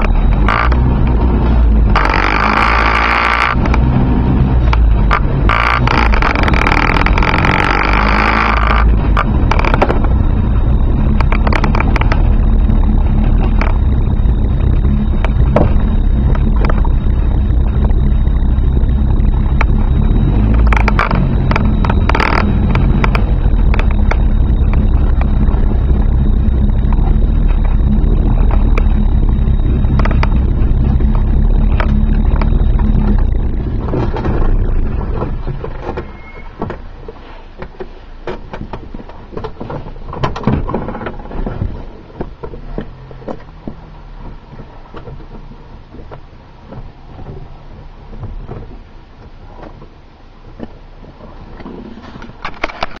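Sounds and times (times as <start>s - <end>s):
car engine and tyres on wet road: 0.0s - 53.0s
car engine idling: 0.0s - 53.0s.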